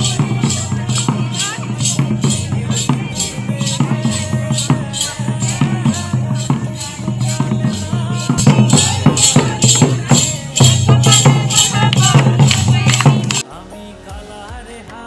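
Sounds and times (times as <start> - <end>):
hand drum beating quick rhythm: 0.0 - 13.4
jingling rattle: 0.0 - 13.4.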